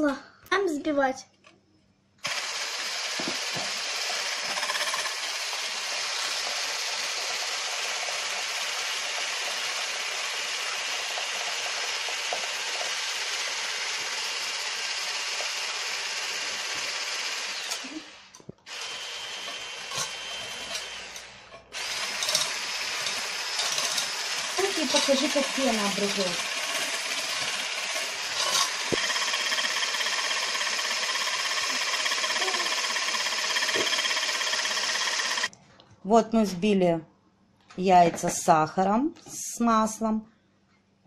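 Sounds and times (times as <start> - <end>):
electric mixer whipping: 2.2 - 35.5.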